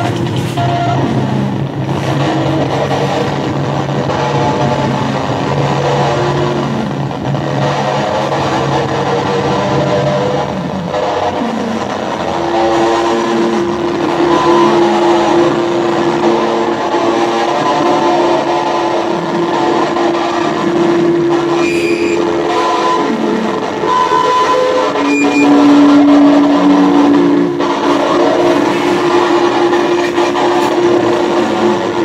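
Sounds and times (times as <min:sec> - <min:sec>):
dense wash of noise: 0:00.0 - 0:32.0
steady droning tone: 0:00.0 - 0:32.0.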